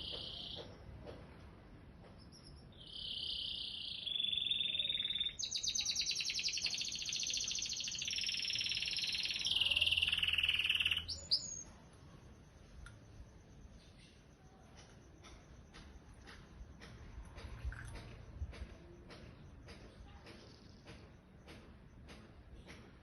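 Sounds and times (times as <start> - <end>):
canary singing trilled rolls: 0.0 - 0.8, 2.0 - 21.3.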